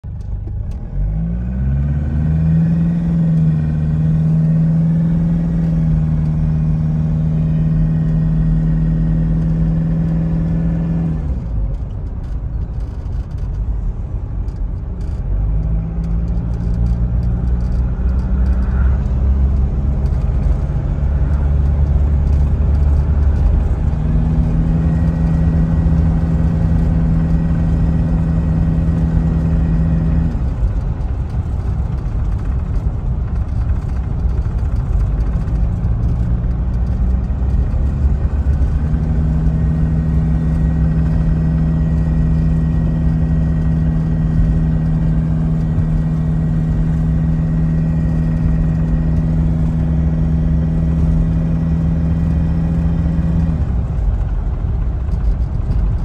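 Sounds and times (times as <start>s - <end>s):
diesel engine from inside cab: 0.0s - 56.0s
low road rumble: 0.0s - 56.0s.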